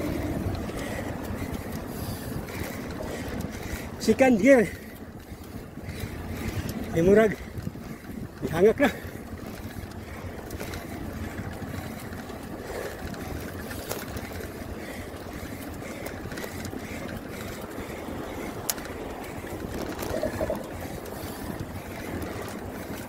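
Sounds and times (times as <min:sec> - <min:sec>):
bicycle rolling on bridge deck: 0:00.0 - 0:23.0
wind buffeting microphone: 0:00.0 - 0:23.0.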